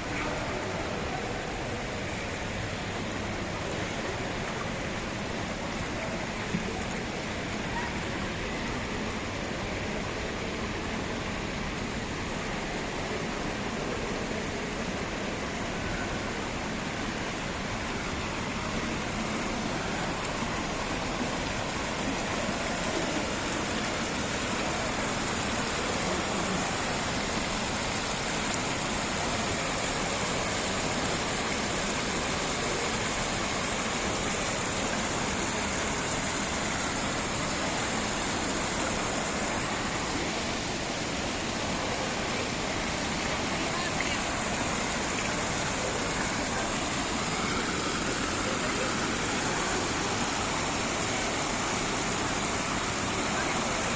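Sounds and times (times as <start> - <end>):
water fountain splashing: 0.0 - 53.9.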